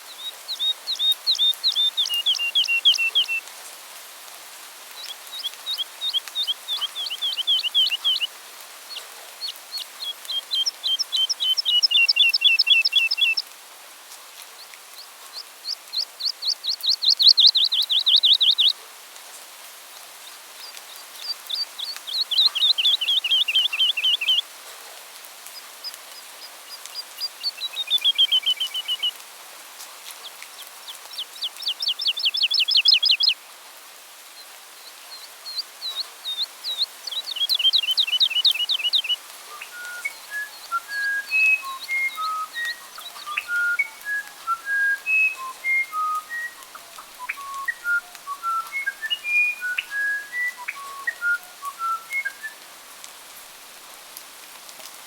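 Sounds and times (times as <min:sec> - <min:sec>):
songbird singing: 0:00.0 - 0:03.5, 0:04.9 - 0:13.6, 0:14.4 - 0:18.8, 0:19.8 - 0:24.5, 0:25.4 - 0:33.6, 0:34.2 - 0:52.6.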